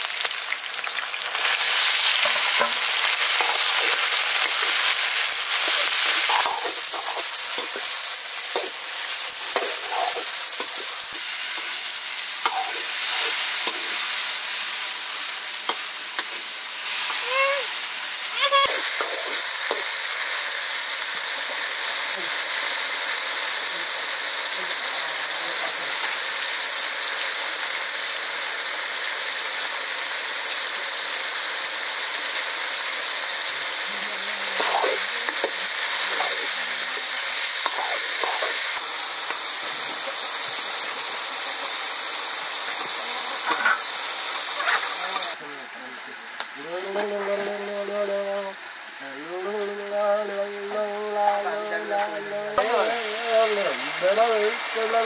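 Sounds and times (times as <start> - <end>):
curry sizzling in oil: 0.0 - 55.0.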